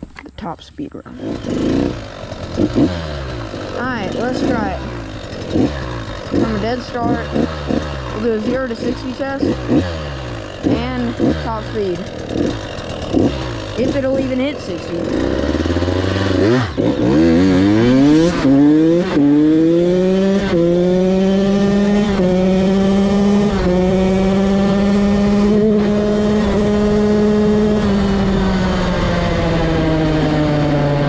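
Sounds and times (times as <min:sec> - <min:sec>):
dirt bike engine accelerating: 0:00.0 - 0:31.0.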